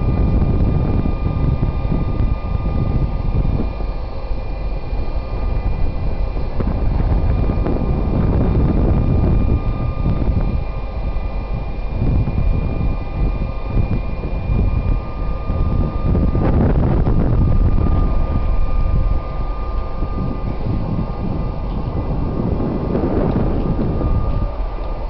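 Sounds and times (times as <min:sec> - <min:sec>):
diesel locomotive engine rumbling: 0:00.0 - 0:25.0
steady high whine: 0:00.0 - 0:25.0.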